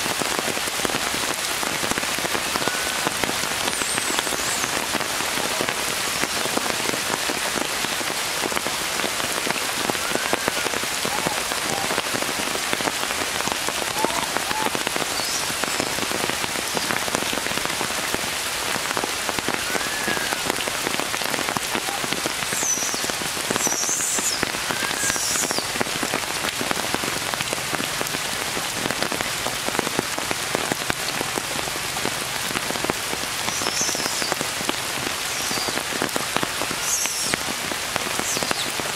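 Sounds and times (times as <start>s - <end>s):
rain falling on foliage: 0.0s - 38.9s.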